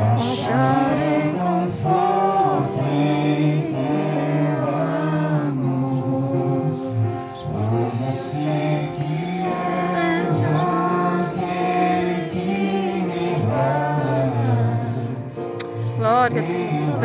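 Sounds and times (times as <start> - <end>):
music with singing voices: 0.0 - 17.0.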